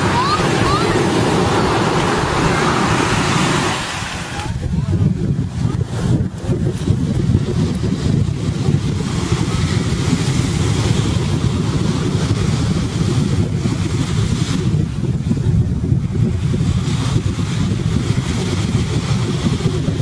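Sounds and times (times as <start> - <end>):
waves washing on sand: 0.0 - 20.0
wind rumble on microphone: 0.0 - 20.0.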